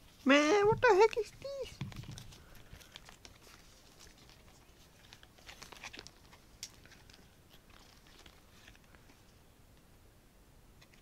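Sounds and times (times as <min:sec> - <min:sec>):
fabric rustling and crinkling: 0:00.0 - 0:09.5.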